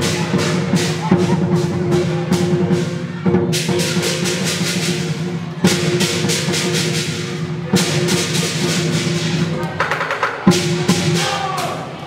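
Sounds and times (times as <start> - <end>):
clashing cymbals: 0.0 - 9.7
rapid large drum beats: 0.0 - 12.0.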